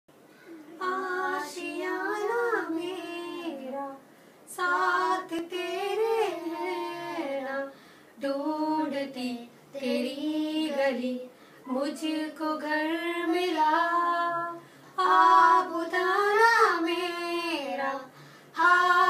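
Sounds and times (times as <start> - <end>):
woman and boy singing unaccompanied: 0.8 - 19.0.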